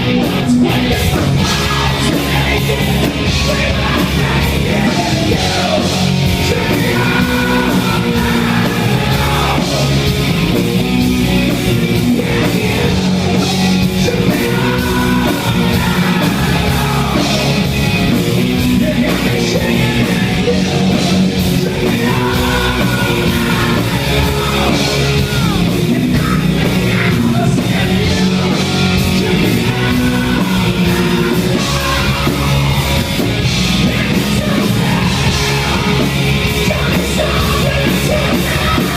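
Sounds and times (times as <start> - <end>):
shouted sung vocals: 0.0 - 10.1, 11.8 - 17.8, 18.7 - 38.9
heavy rock band playing: 0.0 - 38.9.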